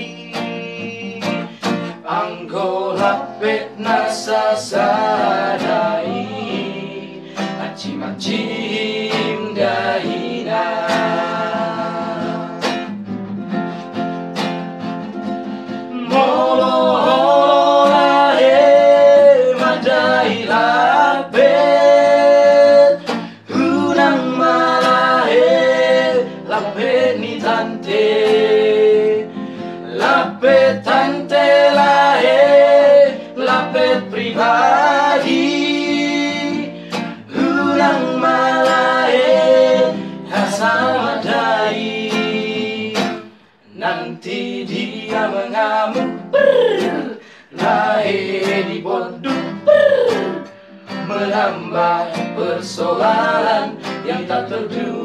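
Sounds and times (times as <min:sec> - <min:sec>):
young men singing together: 0:00.0 - 0:13.0, 0:15.9 - 0:55.0
classical guitar: 0:00.0 - 0:55.0.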